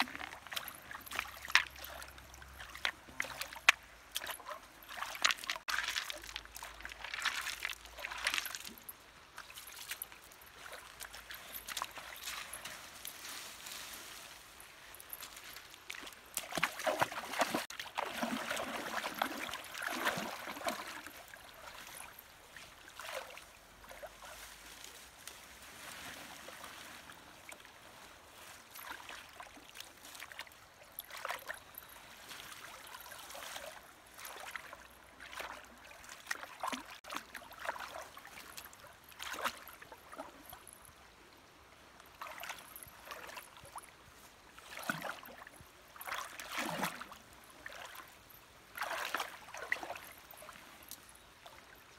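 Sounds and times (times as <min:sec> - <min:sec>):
river water splashing: 0:00.0 - 0:51.9.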